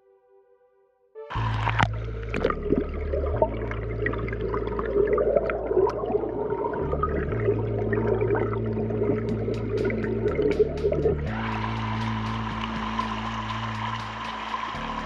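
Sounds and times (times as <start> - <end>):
air bubbles: 1.3 - 15.0
muffled underwater stream rushing: 1.3 - 15.0.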